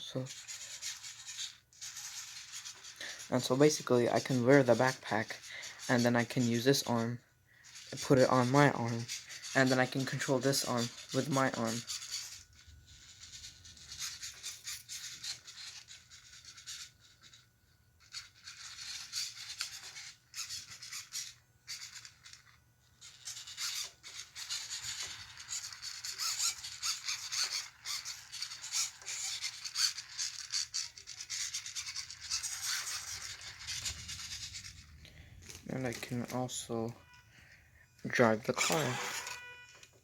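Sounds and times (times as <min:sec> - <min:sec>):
scratchy rubbing: 0:00.0 - 0:37.5, 0:38.1 - 0:39.9.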